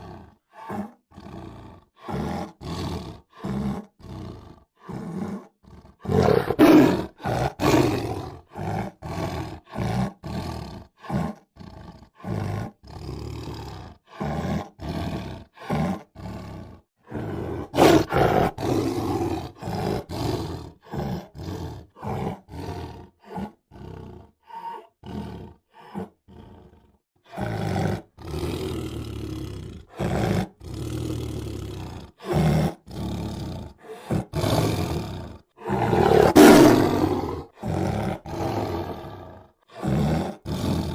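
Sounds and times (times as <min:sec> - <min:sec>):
tiger roaring: 0:00.0 - 0:40.9.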